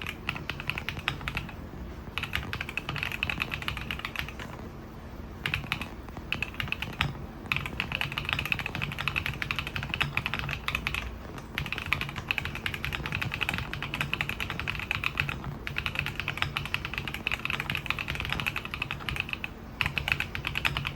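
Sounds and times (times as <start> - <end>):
mechanical keyboard typing: 0.0 - 1.6, 2.2 - 4.6, 5.4 - 20.9.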